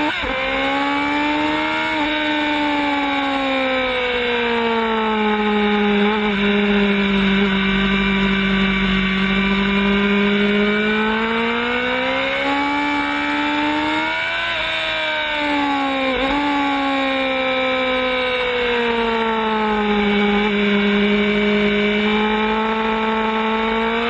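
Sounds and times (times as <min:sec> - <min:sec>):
motorcycle engine at speed: 0:00.0 - 0:24.0.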